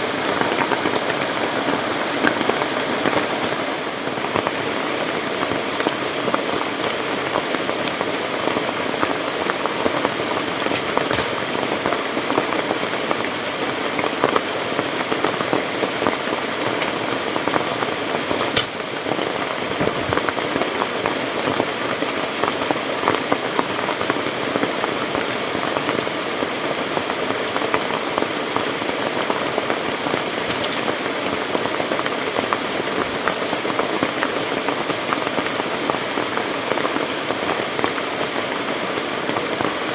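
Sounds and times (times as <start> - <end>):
fast-running stream: 0.0 - 39.9
heavy rain: 0.0 - 39.9.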